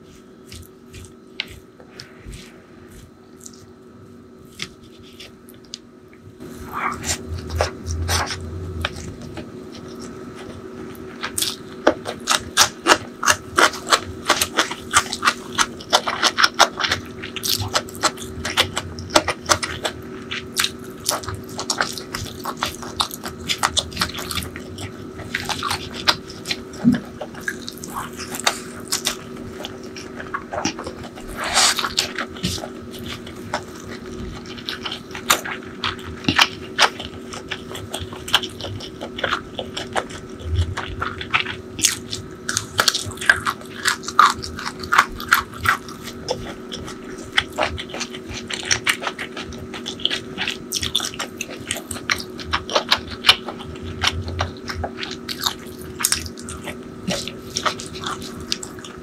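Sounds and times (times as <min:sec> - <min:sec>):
wet chewing and lip-smacking: 0:00.4 - 0:03.8, 0:06.8 - 0:59.0.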